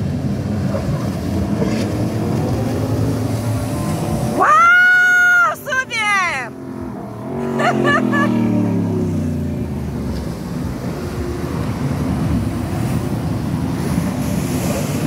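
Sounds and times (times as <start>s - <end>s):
churned water: 0.0s - 15.0s
jet ski engine passing: 0.0s - 15.0s.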